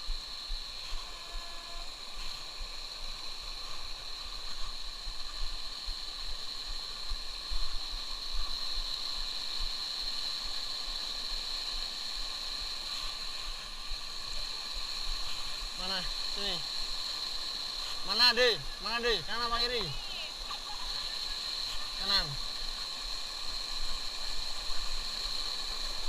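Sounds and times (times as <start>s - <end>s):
stream water flowing: 0.0s - 26.0s.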